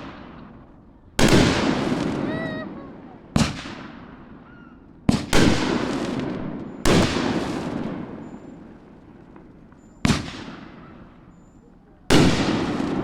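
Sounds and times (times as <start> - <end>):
firework bangs with rumble: 1.2 - 2.6, 3.3 - 11.4, 12.1 - 13.0.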